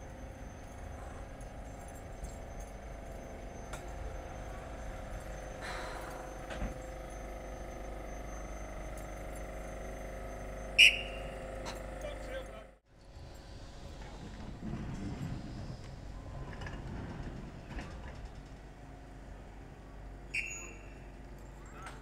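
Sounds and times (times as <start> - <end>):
electric tram humming: 0.0 - 22.0.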